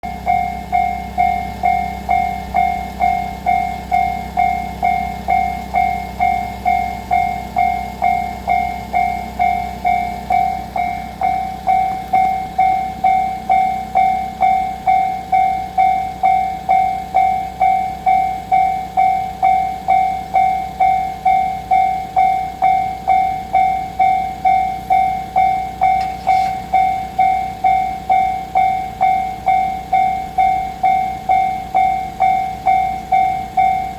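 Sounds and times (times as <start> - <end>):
level-crossing alarm ringing: 0.0 - 33.9.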